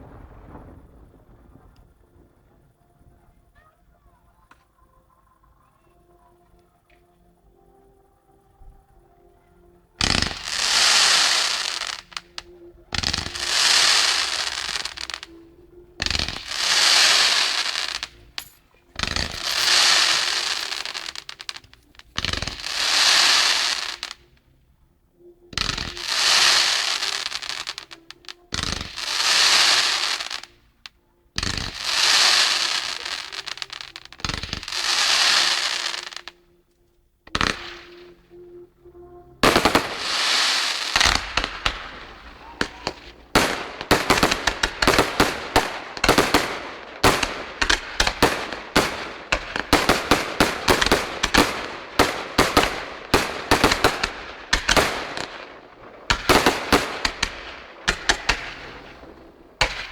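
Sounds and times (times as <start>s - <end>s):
firework bangs: 0.0s - 3.3s, 10.0s - 24.3s, 25.6s - 30.6s, 31.4s - 36.4s, 37.3s - 38.3s, 39.4s - 59.9s
firework crackling: 0.0s - 3.4s, 10.0s - 24.4s, 25.6s - 30.8s, 31.4s - 36.4s, 37.3s - 38.3s, 39.4s - 59.9s.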